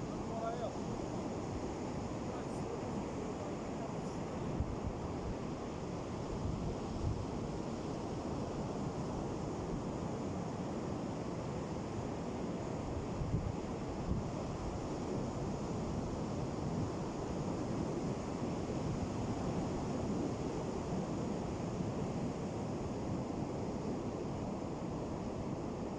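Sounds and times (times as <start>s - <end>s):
ocean surf washing: 0.0s - 25.9s.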